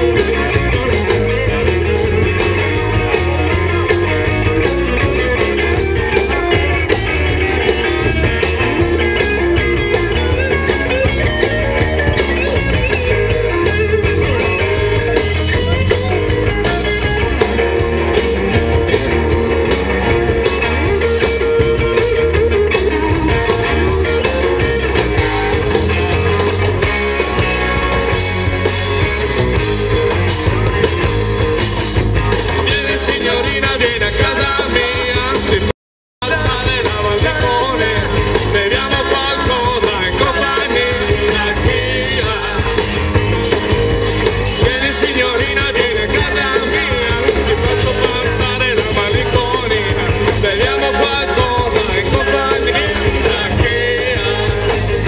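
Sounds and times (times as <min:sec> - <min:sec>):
electric guitar: 0:00.0 - 0:55.0
live rock and roll band: 0:00.0 - 0:55.0.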